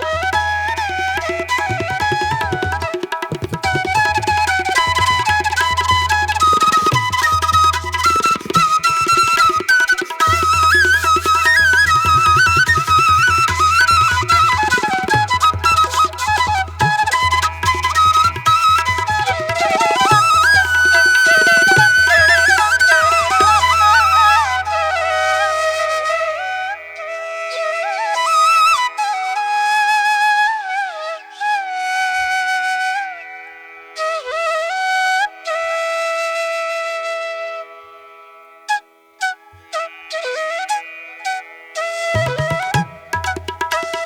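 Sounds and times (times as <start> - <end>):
solo flute melody over drone: 0.0 - 38.1, 38.7 - 44.0.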